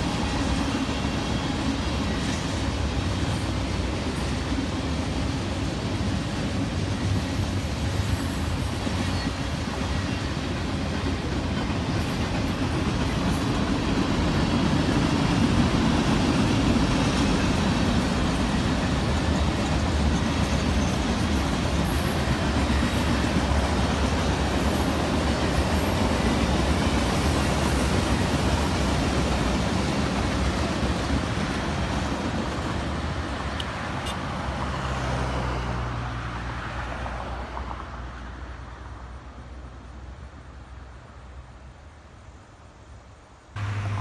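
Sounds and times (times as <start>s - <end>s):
freight train rolling past: 0.0s - 41.7s, 43.5s - 44.0s.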